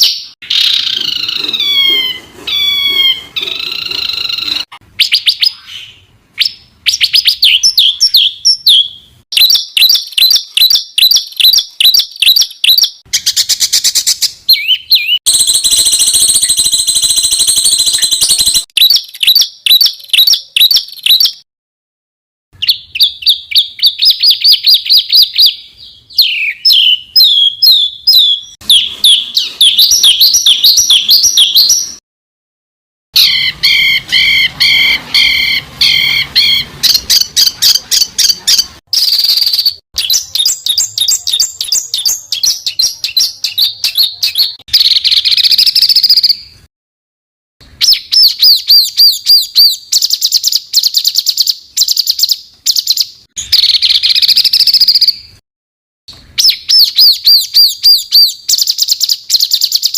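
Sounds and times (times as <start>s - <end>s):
songbird chirps and whistles: 0.0s - 21.4s, 22.6s - 32.0s, 33.2s - 46.6s, 47.6s - 55.4s, 56.2s - 59.9s.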